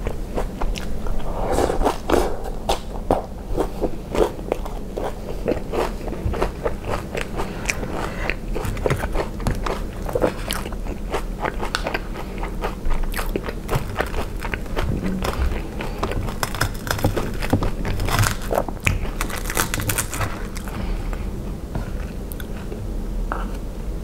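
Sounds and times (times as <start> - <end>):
close chewing of crispy food: 4.2 - 23.6.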